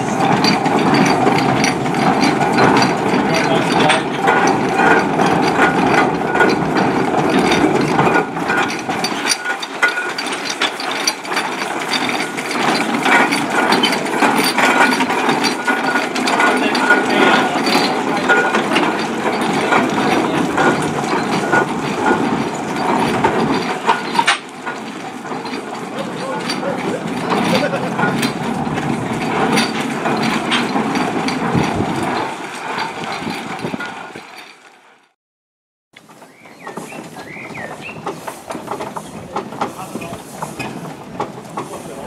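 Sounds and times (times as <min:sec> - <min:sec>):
steam traction engine clattering: 0:00.0 - 0:35.2, 0:36.0 - 0:42.0.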